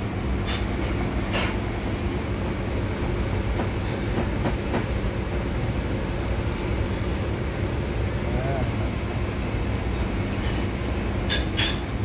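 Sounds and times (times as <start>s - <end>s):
background machinery hum: 0.0s - 12.0s.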